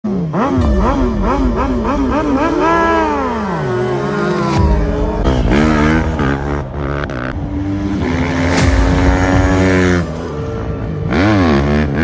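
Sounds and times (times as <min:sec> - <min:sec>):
motorcycle engines revving: 0:00.1 - 0:12.0.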